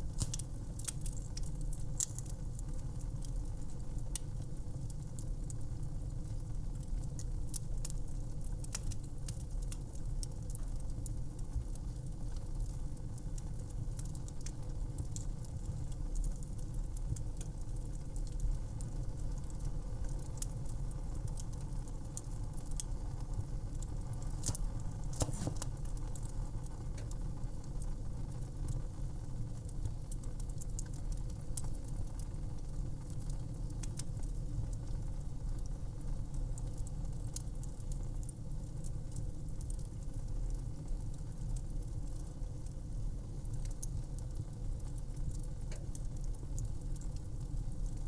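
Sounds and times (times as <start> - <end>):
fire crackling and popping: 0.0 - 48.0.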